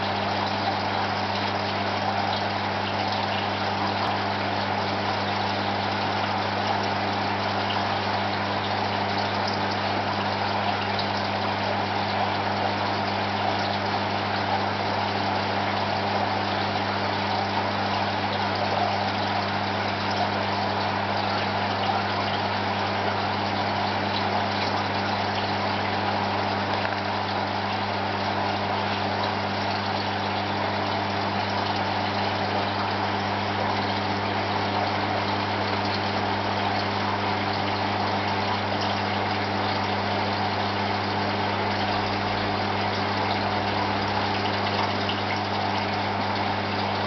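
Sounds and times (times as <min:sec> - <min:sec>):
low electric hum: 0:00.0 - 0:47.0.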